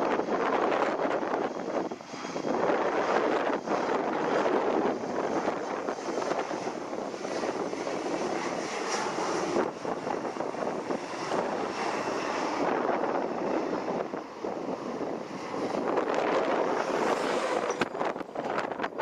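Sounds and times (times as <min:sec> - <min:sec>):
aircraft engines roaring: 0:00.0 - 0:19.0.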